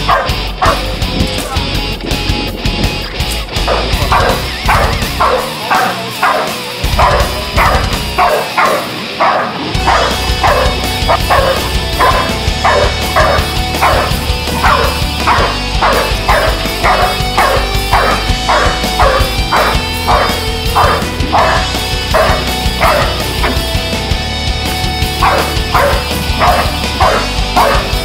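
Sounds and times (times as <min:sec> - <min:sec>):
dog barking: 0:00.0 - 0:00.9, 0:03.6 - 0:23.7, 0:25.2 - 0:28.0
background music: 0:00.0 - 0:28.0.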